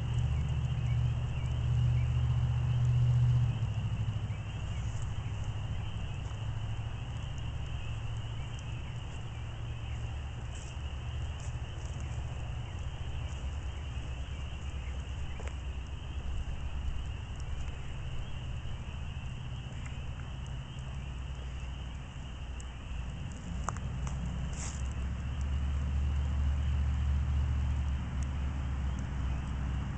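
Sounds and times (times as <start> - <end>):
campfire crackling and popping: 0.0 - 29.9
steady low rumble: 0.0 - 29.9.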